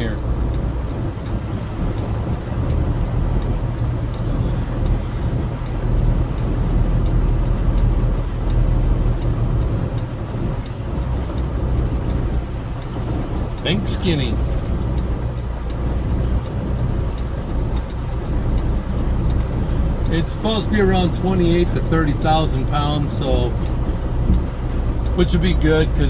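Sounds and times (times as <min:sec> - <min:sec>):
diesel truck engine droning: 0:00.0 - 0:26.0.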